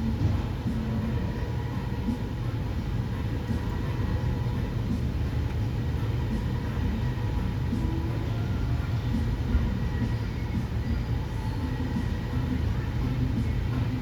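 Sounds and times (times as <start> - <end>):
faint steady whine: 0.0 - 14.0.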